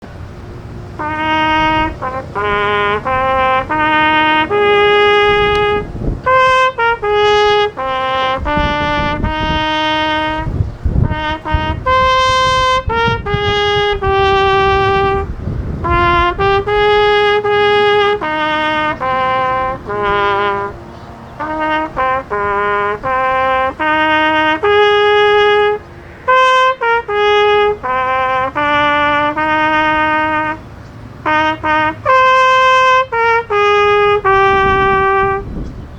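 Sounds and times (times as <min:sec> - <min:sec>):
solo trumpet melody: 0:00.4 - 0:35.7.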